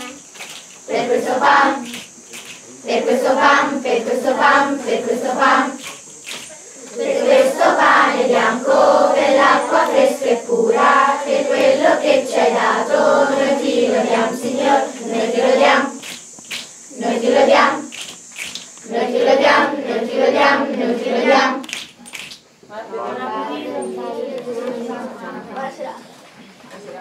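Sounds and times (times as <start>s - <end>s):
children singing in chorus: 0.8s - 21.8s, 23.0s - 25.8s.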